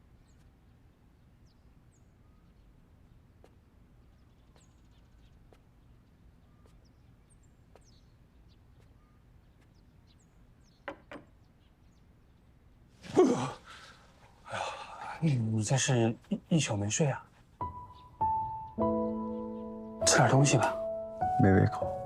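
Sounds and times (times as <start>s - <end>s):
faint bird chirps: 0.0s - 21.9s.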